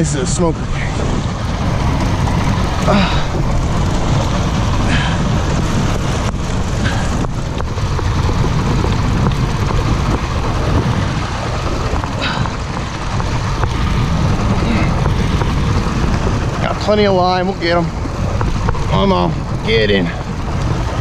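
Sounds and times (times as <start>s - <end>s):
outboard motor running: 0.0s - 21.0s
water rushing in wake: 0.0s - 21.0s
wind buffeting microphone: 0.0s - 21.0s.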